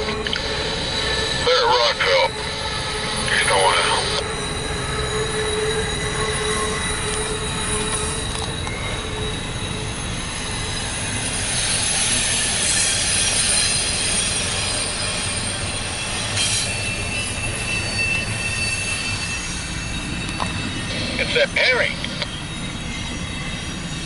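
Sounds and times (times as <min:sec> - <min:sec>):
high-pitched wheel squeal: 0:00.0 - 0:24.0
steel wheels on rail: 0:00.0 - 0:24.0.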